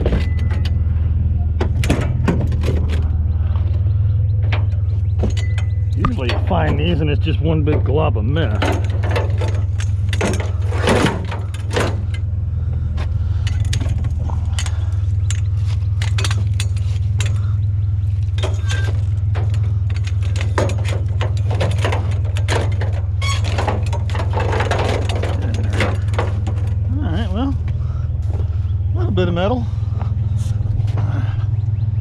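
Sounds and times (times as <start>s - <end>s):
scrap metal clinking and rattling: 0.0s - 3.2s, 3.8s - 28.5s
truck engine idling: 0.0s - 32.0s.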